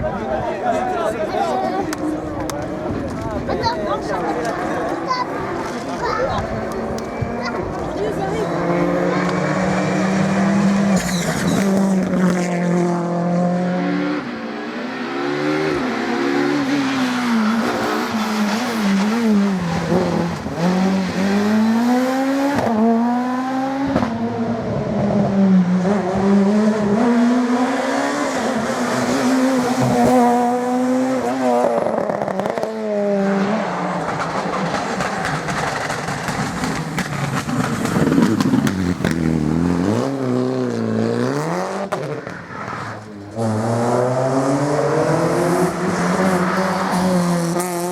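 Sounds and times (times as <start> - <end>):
rally car engines at full throttle: 0.0 - 47.9.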